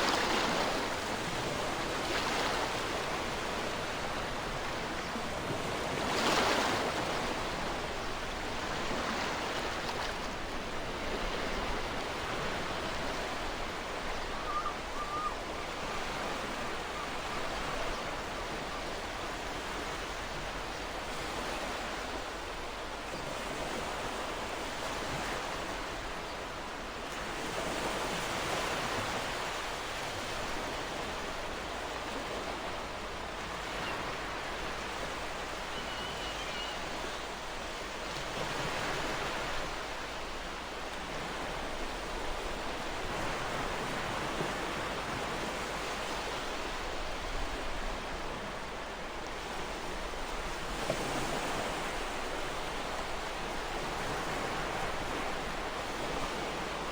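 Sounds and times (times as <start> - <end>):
ocean waves breaking on shore: 0.0 - 56.9.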